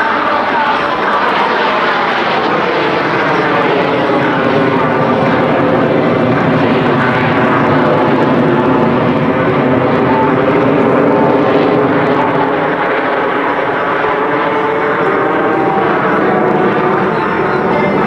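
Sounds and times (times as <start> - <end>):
jet engines roaring overhead: 0.0 - 18.0.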